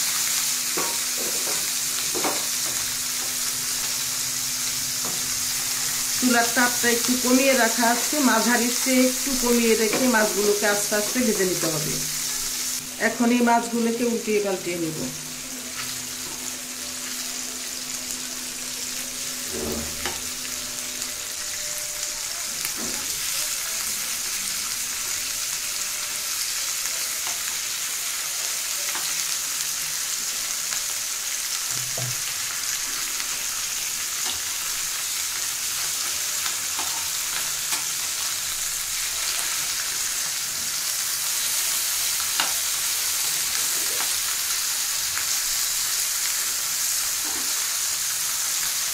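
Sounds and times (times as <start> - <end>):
fish sizzling in oil: 0.0 - 48.9.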